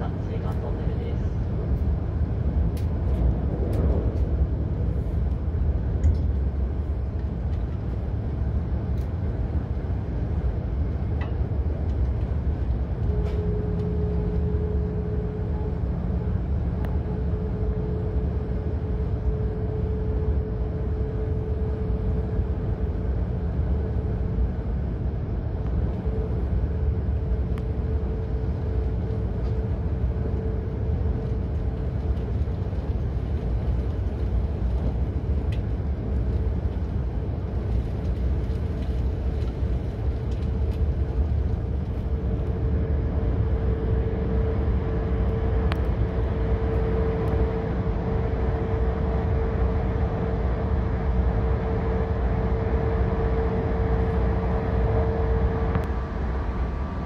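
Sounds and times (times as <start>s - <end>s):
train cabin low rumble: 0.0s - 57.0s.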